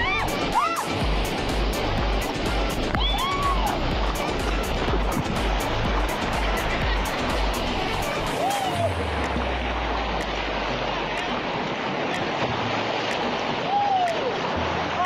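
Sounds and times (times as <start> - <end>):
whitewater rushing and splashing: 0.0 - 15.0.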